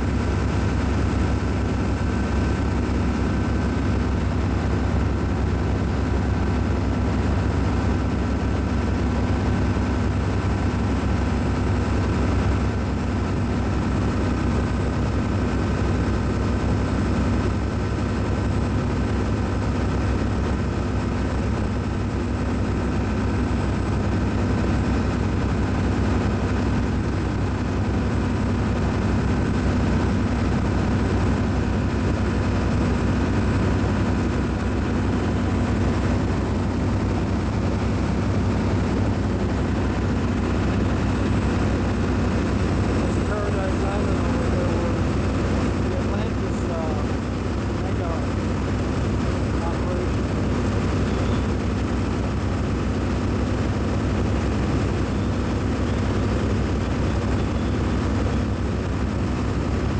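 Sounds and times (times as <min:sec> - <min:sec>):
ship machinery drone: 0:00.0 - 0:59.9.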